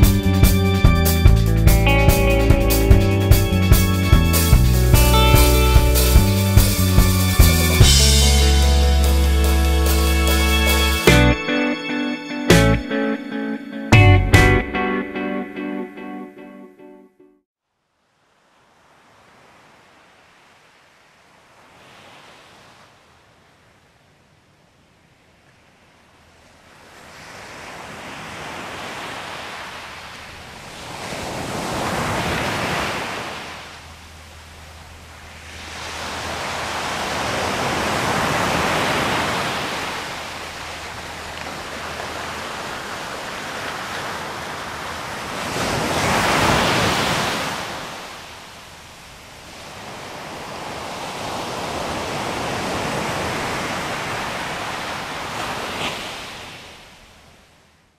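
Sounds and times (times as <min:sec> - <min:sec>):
ocean surf on sandy beach: 0:00.0 - 0:13.8, 0:18.1 - 0:57.9.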